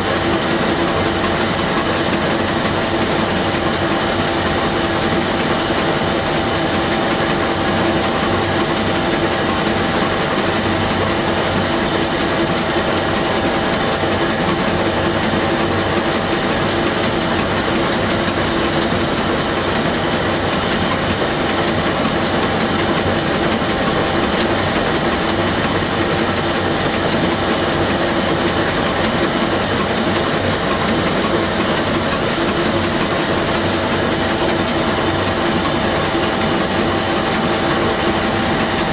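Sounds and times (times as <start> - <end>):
marine diesel engine running: 0.0 - 38.9.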